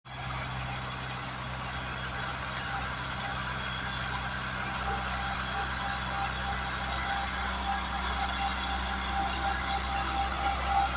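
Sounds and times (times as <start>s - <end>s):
heavy diesel machinery running: 0.1s - 10.9s.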